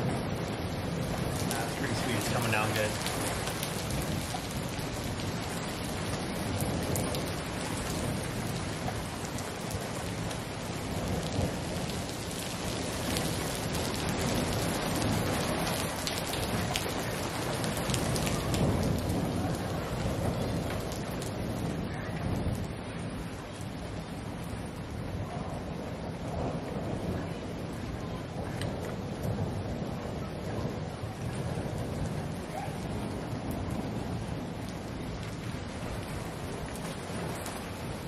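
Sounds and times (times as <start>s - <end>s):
heavy rain pouring: 0.0s - 38.0s
low thunder rumbling: 0.0s - 38.0s.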